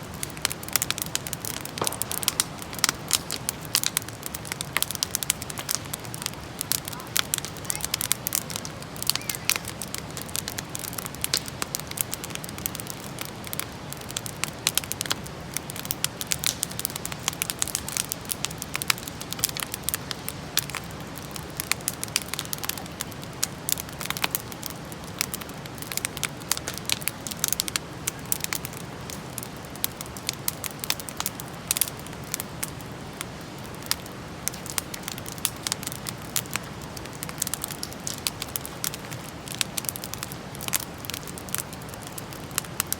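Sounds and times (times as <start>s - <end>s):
campfire crackling and popping: 0.0s - 42.9s
low hiss of fire: 0.0s - 42.9s.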